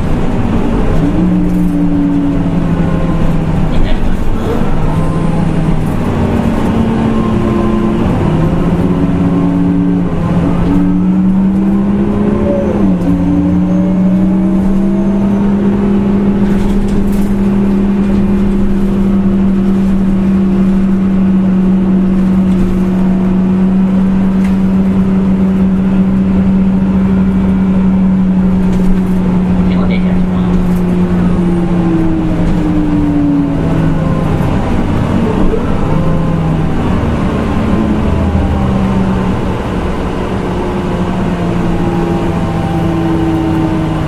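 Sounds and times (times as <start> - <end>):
bus engine pulling away: 0.0 - 44.0.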